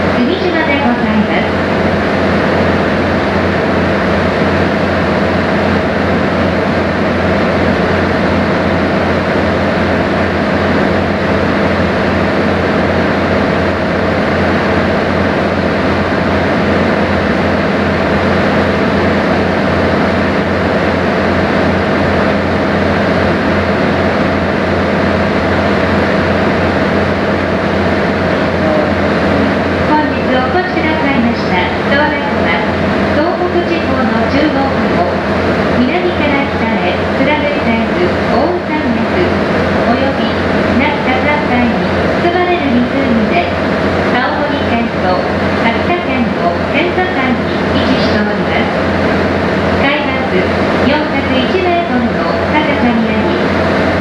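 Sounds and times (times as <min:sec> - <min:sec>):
boat engine hum: 0:00.0 - 0:54.0.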